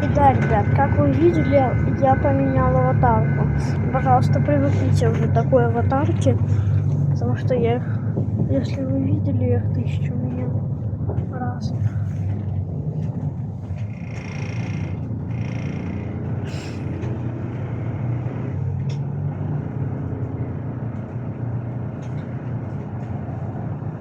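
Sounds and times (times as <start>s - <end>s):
bus engine rumble: 0.0s - 24.0s.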